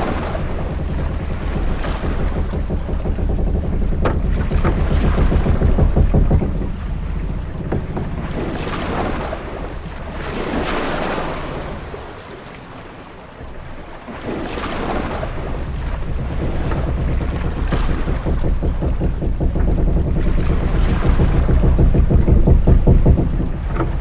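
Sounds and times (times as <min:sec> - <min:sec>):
faint creaks or knocks: 0:00.0 - 0:24.0
low steady rumble: 0:00.0 - 0:24.0
waves washing against hull: 0:00.0 - 0:24.0
wind: 0:00.0 - 0:24.0.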